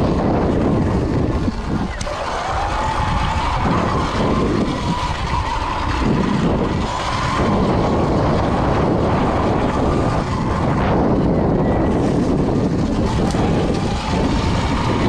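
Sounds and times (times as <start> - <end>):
electric motor high whine: 0.0 - 15.0
tyre noise: 0.0 - 15.0
wind rush: 0.0 - 15.0.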